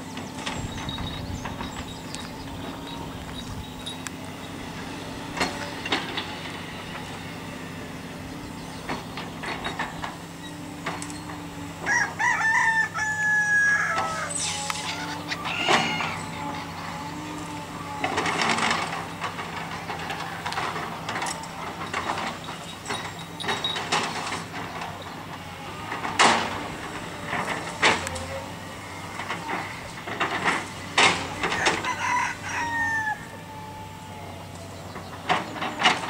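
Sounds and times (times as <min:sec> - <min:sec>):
chickens calling: 0:00.0 - 0:36.0
excavator diesel engine humming: 0:00.0 - 0:36.0.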